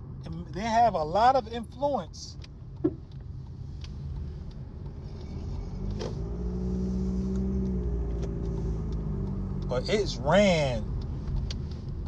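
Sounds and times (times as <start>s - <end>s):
engine hum: 0.0s - 12.0s
vehicle rumble: 0.0s - 12.0s.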